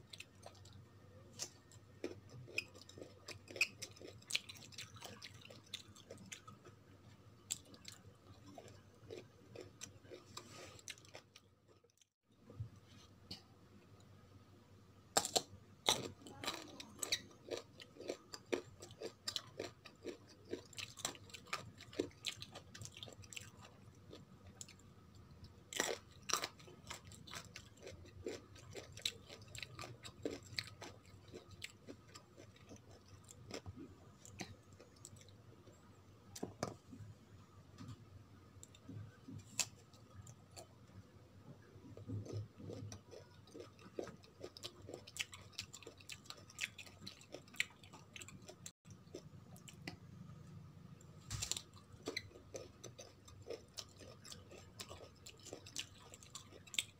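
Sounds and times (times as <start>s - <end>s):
crunching and chewing: 0.0s - 6.8s, 7.4s - 12.1s, 15.1s - 35.8s, 38.6s - 41.0s, 41.6s - 50.3s, 51.0s - 56.9s.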